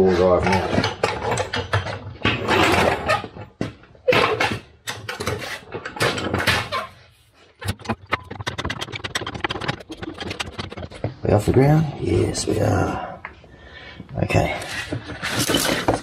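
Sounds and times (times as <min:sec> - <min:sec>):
scraping and handling noises: 0:00.0 - 0:12.3, 0:14.4 - 0:16.0.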